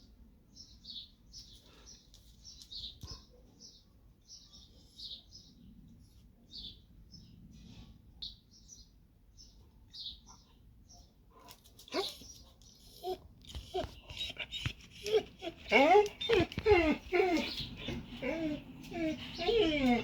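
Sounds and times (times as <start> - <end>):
small birds chirping: 0.5 - 20.0.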